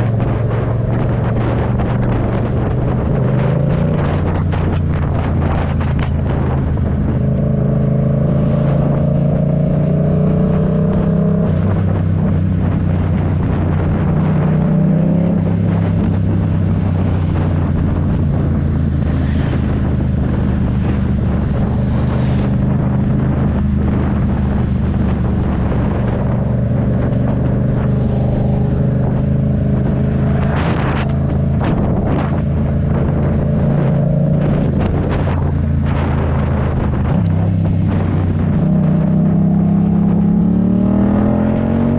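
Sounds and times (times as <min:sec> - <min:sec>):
motorcycle engine running: 0:00.0 - 0:41.9
wind noise on microphone: 0:00.0 - 0:41.9.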